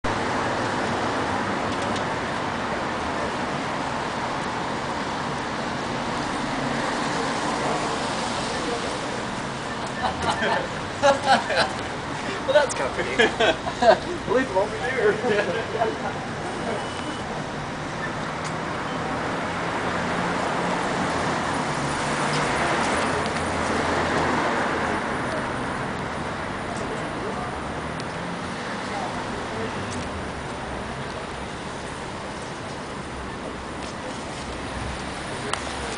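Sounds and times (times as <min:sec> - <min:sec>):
city street traffic: 0:00.0 - 0:35.9.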